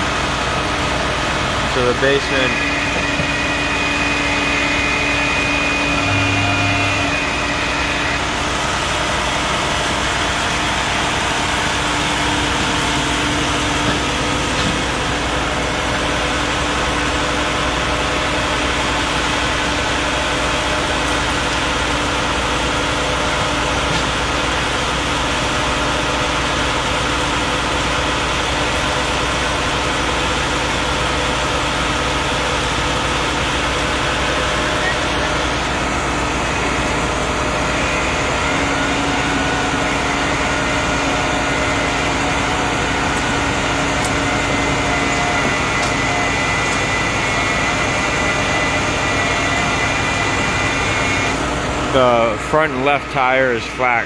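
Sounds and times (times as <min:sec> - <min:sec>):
vehicle engine idling: 0:00.0 - 0:53.6.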